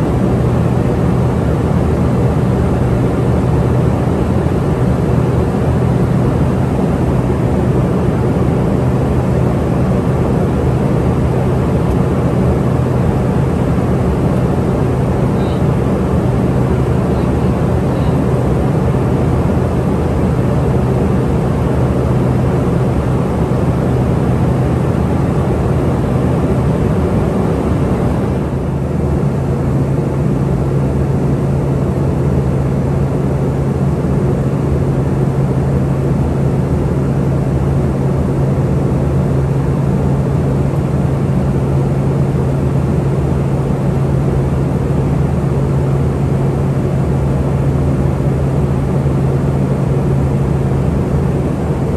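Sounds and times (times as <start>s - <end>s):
airplane cabin roar: 0.0s - 51.9s.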